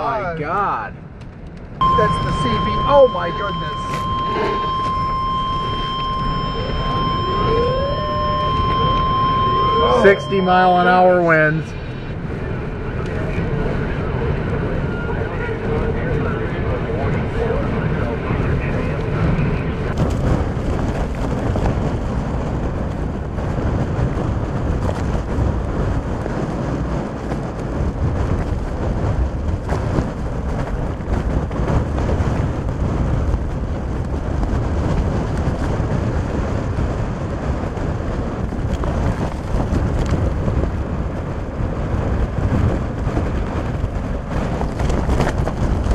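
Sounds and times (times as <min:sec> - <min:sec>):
strong wind on microphone: 0:01.0 - 0:45.9.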